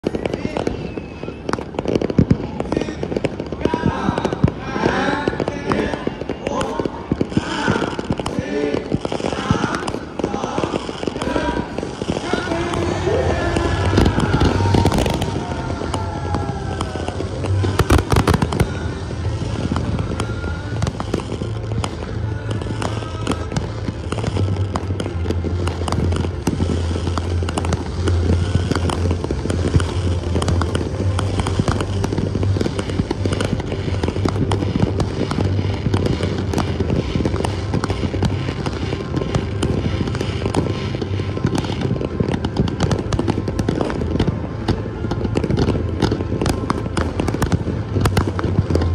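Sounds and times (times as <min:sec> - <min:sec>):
fireworks bangs and pops: 0:00.0 - 0:48.9.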